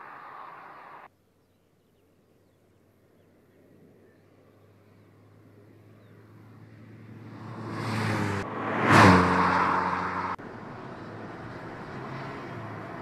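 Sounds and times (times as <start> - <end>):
distant car engine hum: 0.0 - 13.0.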